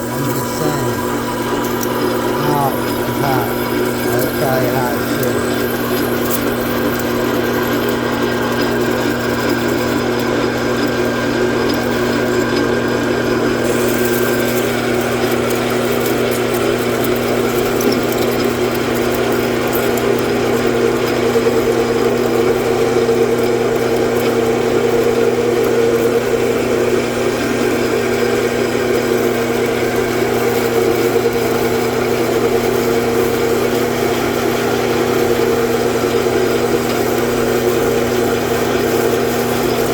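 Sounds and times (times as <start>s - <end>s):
metal lathe cutting: 0.0s - 39.9s
steady motor hum: 0.0s - 39.9s.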